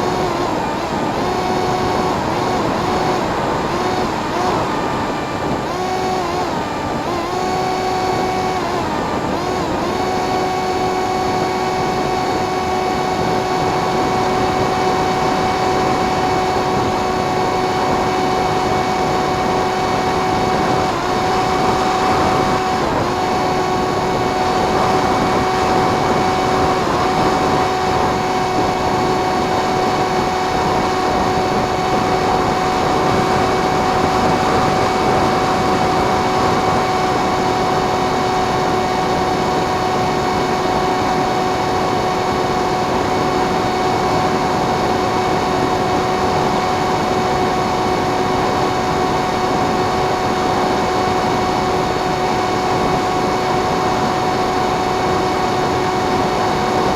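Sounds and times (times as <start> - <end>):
model plane motor whining: 0.0 - 56.9
wind and airflow noise: 0.0 - 56.9.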